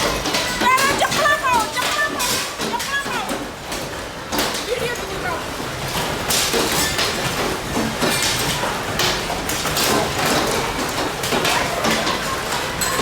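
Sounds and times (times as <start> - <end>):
hail pelting down: 0.0 - 13.0.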